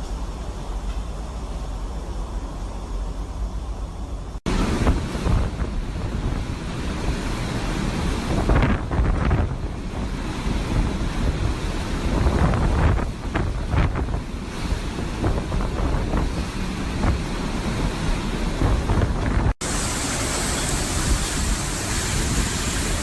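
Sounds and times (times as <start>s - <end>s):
hurricane wind roaring: 0.0s - 23.0s.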